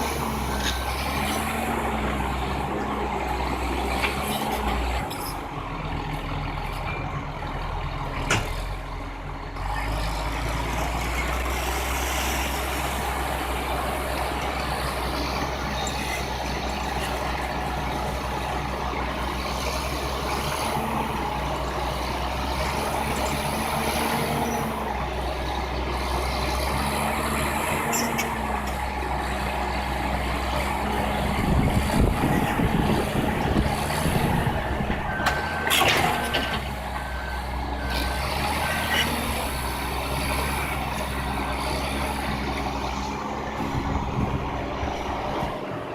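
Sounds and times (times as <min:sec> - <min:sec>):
heavy diesel machinery running: 0:00.0 - 0:45.9.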